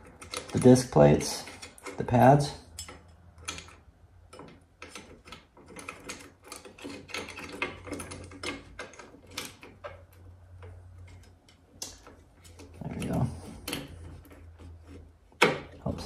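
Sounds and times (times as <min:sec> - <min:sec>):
screwdriver clicking and scraping metal: 0:00.0 - 0:16.0.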